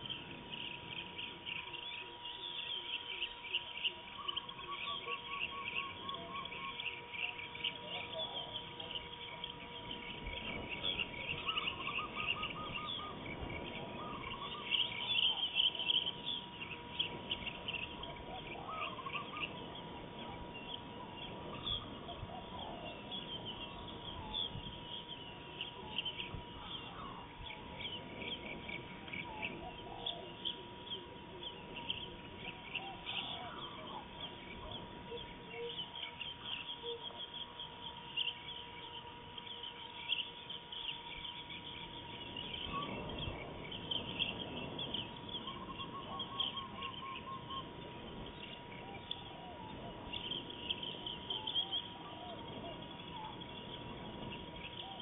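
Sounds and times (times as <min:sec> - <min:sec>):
birds chirping: 0:00.0 - 0:55.0
faint steady whine: 0:00.0 - 0:55.0
lower bird calls: 0:00.0 - 0:55.0.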